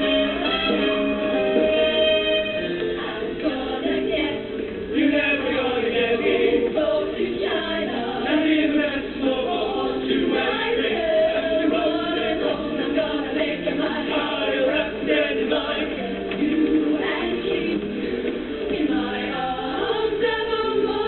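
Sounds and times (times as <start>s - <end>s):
vocal ensemble singing in harmony: 0.0s - 21.0s.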